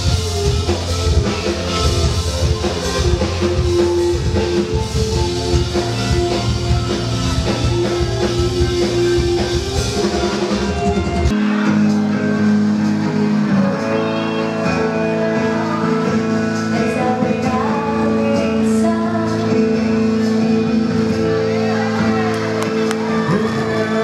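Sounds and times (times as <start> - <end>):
guitar song with held chords: 0.0 - 24.0.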